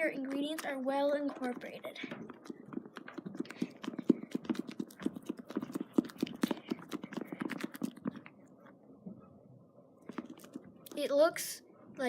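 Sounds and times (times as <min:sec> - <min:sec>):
spoon stirring thick slime: 0:00.0 - 0:08.7, 0:10.0 - 0:11.0.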